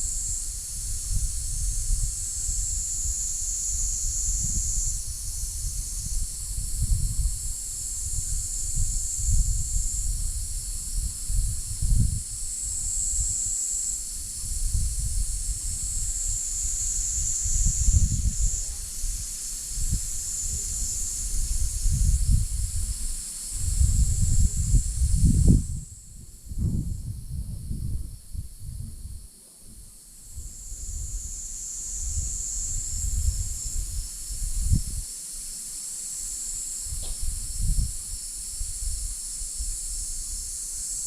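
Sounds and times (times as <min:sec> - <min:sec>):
wind rumbling on microphone: 0:00.0 - 0:35.1, 0:36.8 - 0:41.0
insects buzzing: 0:00.0 - 0:41.0.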